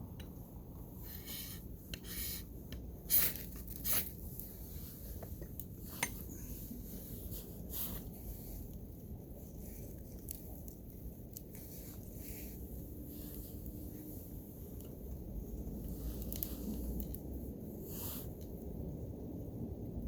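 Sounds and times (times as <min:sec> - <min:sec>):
gear rustling and scraping: 0:00.0 - 0:17.3.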